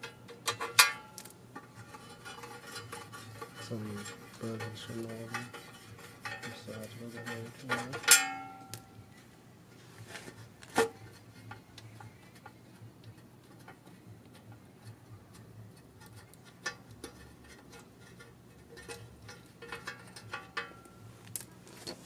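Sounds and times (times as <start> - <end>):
hand tools clicking and tapping: 0.0 - 8.9, 10.6 - 22.0.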